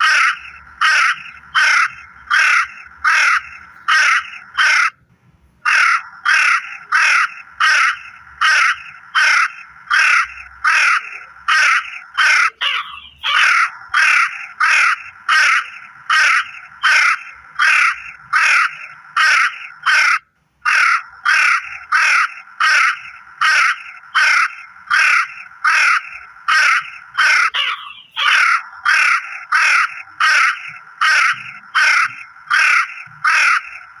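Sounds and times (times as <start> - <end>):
crow cawing: 0.0 - 5.0, 5.7 - 34.0.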